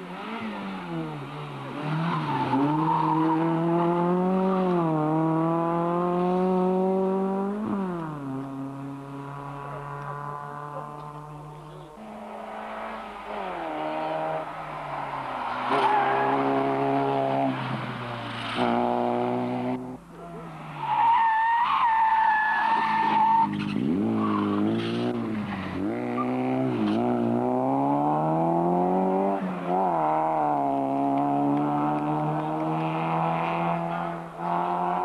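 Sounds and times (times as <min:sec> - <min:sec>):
rally car engine under load: 0:00.0 - 0:35.0.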